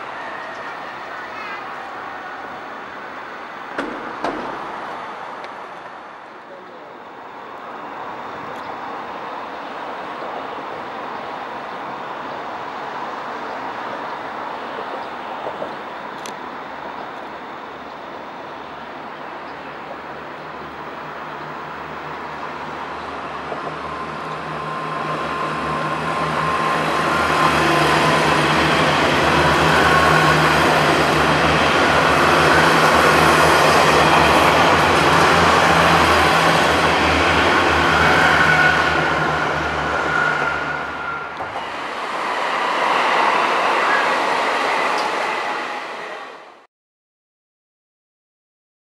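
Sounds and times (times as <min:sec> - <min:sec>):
wheels rushing on rails: 0:00.0 - 0:46.6
train engine hum: 0:00.0 - 0:46.7.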